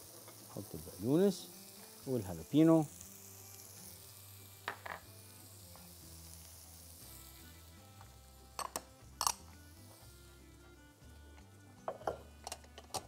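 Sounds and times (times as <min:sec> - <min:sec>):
sauce sizzling in oil: 0:00.0 - 0:13.0.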